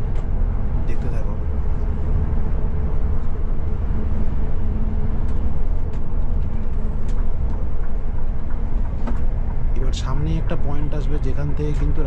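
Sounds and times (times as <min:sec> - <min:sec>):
coach engine and road drone: 0:00.0 - 0:12.0.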